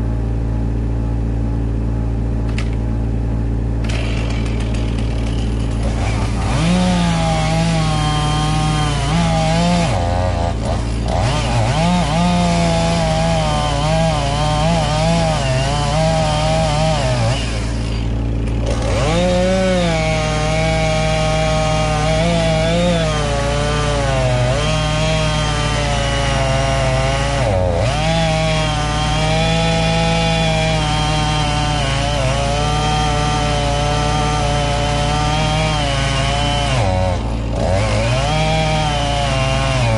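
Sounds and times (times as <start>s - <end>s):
chainsaw cutting wood: 2.5s - 2.8s, 3.7s - 39.9s.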